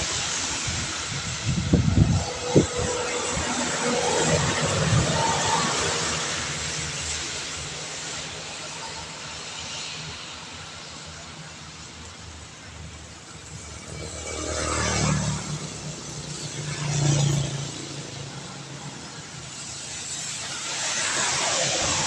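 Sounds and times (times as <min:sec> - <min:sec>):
rain hissing: 0:00.0 - 0:22.0
tyres hissing on wet road: 0:00.0 - 0:22.0
vehicles driving past: 0:00.0 - 0:22.0.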